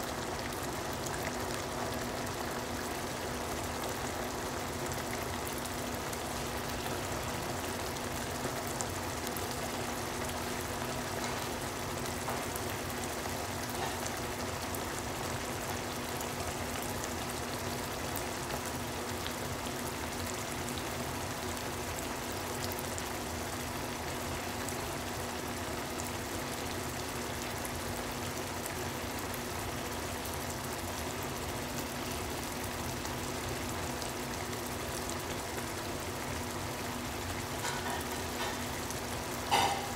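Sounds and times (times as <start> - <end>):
sauce bubbling and popping: 0.1 - 39.9.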